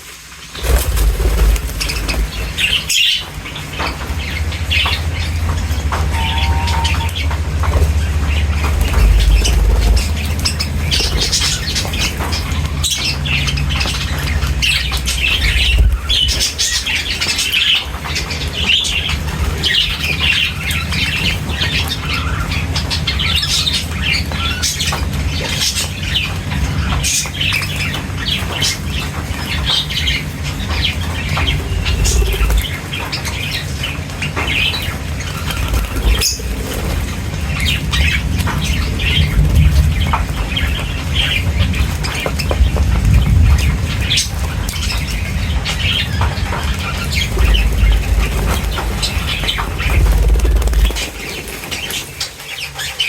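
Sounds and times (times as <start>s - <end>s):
small birds chirping and squawking: 0.0s - 53.0s
wings flapping: 0.0s - 53.0s
steady low rumble: 0.5s - 24.5s, 25.1s - 52.2s.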